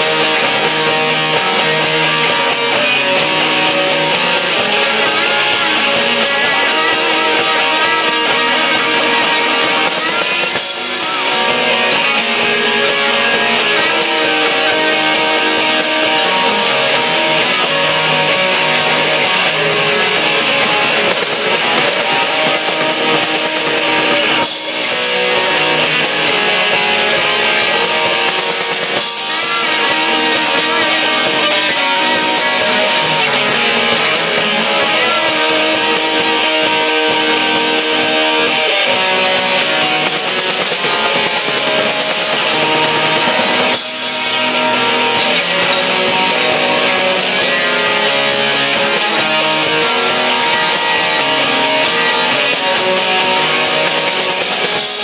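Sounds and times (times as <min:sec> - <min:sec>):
drum kit: 0:00.0 - 0:55.0
strummed electric guitars: 0:00.0 - 0:55.0.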